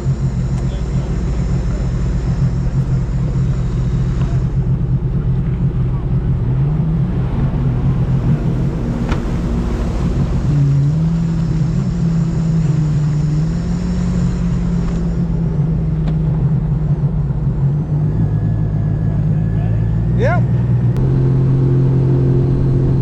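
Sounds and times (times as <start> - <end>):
personal watercraft engine running: 0.0 - 23.0.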